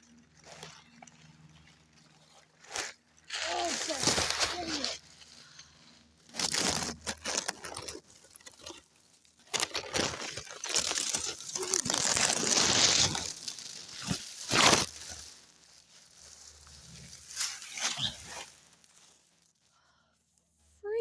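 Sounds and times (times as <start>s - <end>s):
dry leaves and twigs crunching: 0.0s - 20.4s.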